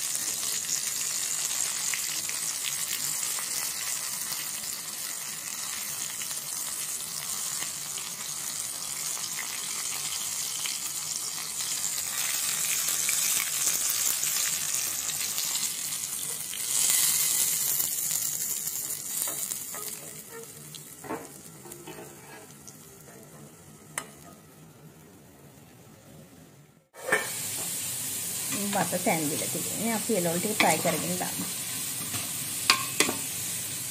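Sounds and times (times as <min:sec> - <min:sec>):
prawns sizzling in hot oil: 0:00.0 - 0:25.0, 0:27.0 - 0:33.9.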